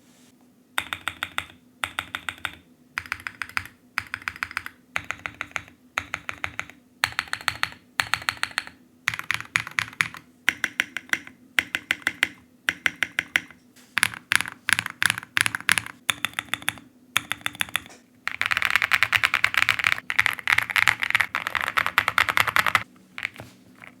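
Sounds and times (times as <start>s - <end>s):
mechanical keyboard typing: 0.8s - 24.0s.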